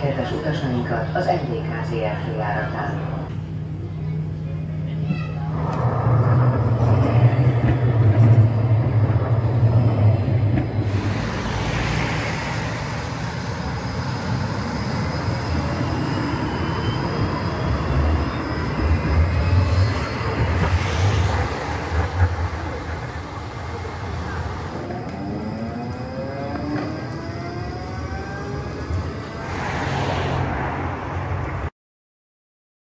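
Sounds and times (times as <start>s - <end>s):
tram drive whine: 0.0s - 31.7s
tram wheels rumbling on rails: 5.1s - 31.7s.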